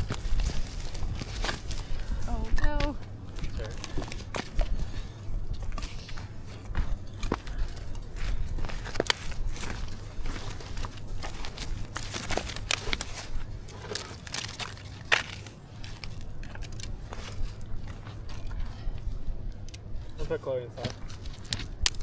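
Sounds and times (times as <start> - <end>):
crackles and crunches: 0.0 - 22.0
steady low rumble: 0.0 - 22.0.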